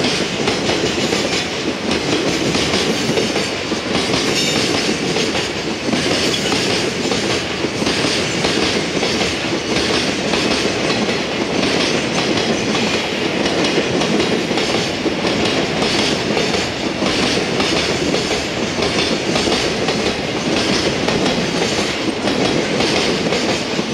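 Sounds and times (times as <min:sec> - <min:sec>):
freight train rumbling past: 0:00.0 - 0:23.9.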